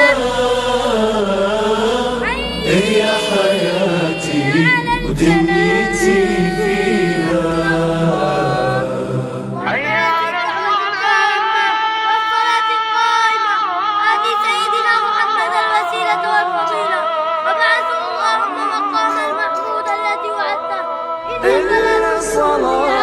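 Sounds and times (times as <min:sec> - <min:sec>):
unaccompanied vocal singing: 0:00.0 - 0:23.0.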